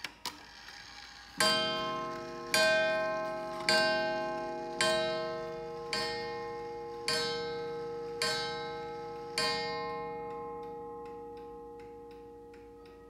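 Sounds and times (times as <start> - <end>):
clock hammer striking wire gong: 1.4 - 13.0
faint clock ticking: 1.4 - 13.0.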